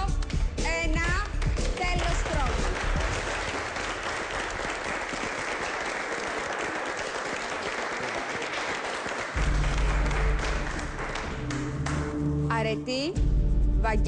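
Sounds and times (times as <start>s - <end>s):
group of people clapping: 0.0s - 12.2s.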